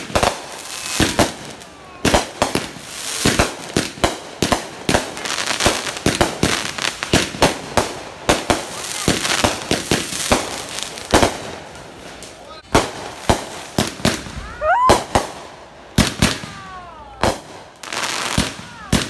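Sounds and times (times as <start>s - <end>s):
fireworks hiss: 0.0s - 16.6s
fireworks bangs: 0.0s - 19.0s.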